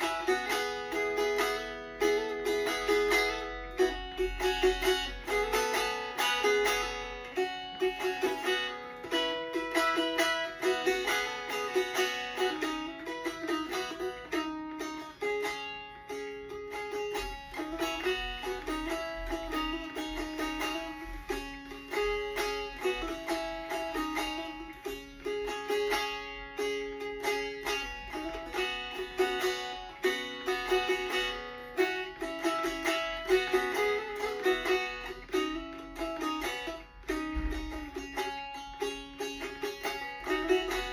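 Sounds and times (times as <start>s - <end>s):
plucked string instrument melody: 0.0s - 40.9s.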